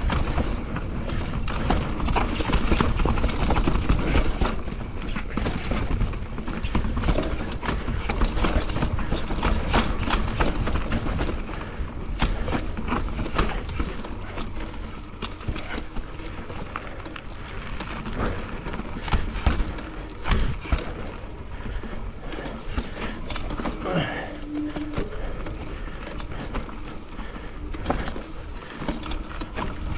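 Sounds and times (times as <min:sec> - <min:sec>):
bike clacking and rattling: 0:00.0 - 0:29.9.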